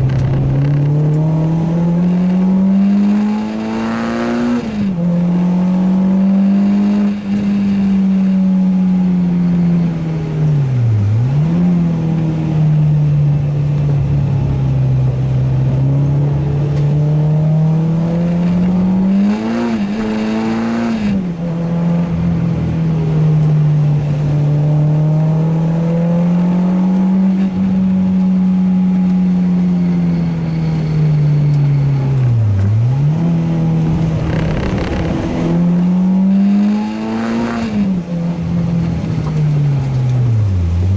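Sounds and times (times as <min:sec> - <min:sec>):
car engine racing: 0:00.0 - 0:40.9.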